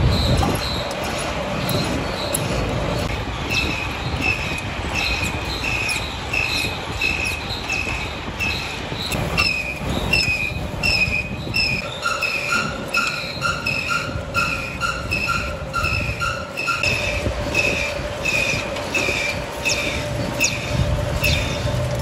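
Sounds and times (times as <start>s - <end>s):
lower-pitched squeal: 0.0s - 21.7s
rhythmic high squeal: 0.0s - 21.9s
mechanical rumble: 0.0s - 22.0s.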